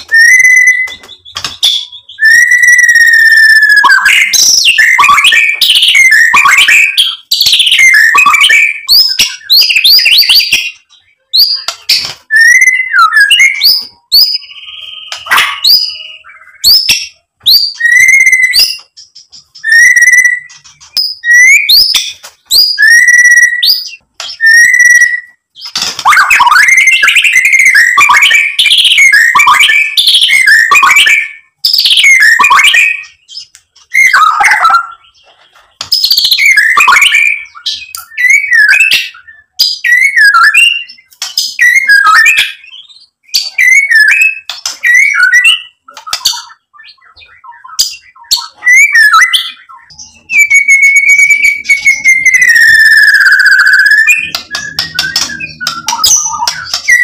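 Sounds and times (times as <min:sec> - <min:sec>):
bird singing whistled phrases: 0:00.0 - 0:57.0.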